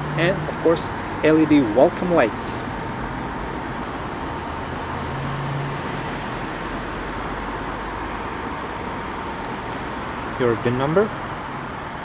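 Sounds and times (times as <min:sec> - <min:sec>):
motor vehicle hum: 0:00.0 - 0:12.0.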